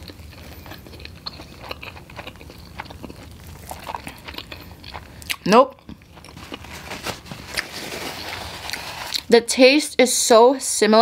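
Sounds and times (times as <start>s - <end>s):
person chewing food: 0.0s - 9.3s.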